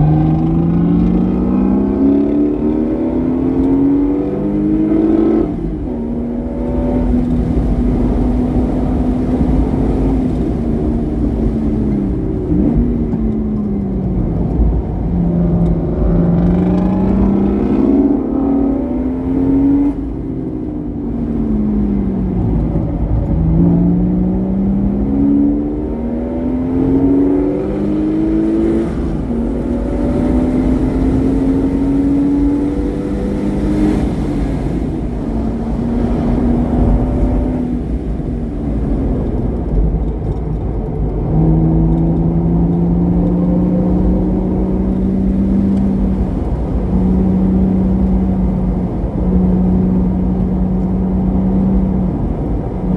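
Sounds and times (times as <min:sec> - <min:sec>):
sports car engine revving: 0:00.0 - 0:52.9.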